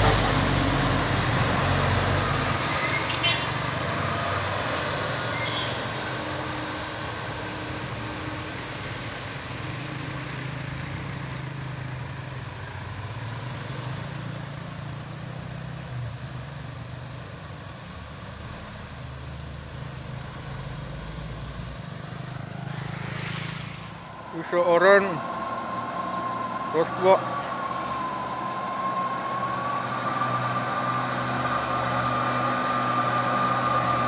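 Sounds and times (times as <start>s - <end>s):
diesel truck engine droning: 0.0s - 21.9s, 22.5s - 34.0s.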